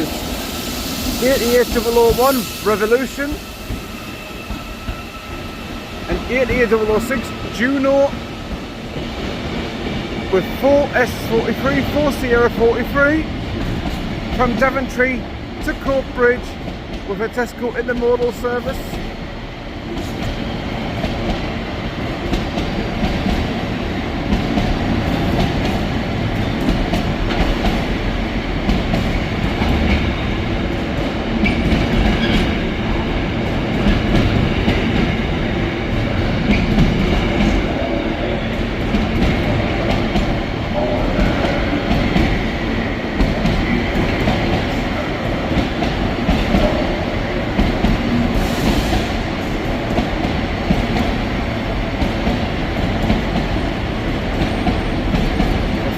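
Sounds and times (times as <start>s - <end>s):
train wheels on rails: 0.0s - 55.9s.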